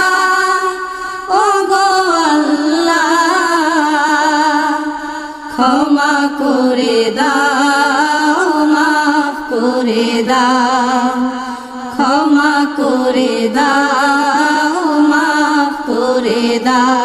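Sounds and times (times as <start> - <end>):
voices singing devotional melody: 0.0 - 17.0.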